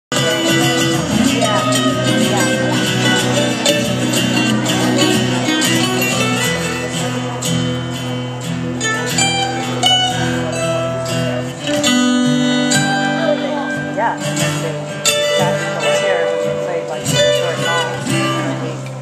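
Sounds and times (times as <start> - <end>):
acoustic guitar picked notes: 0.1 - 19.0.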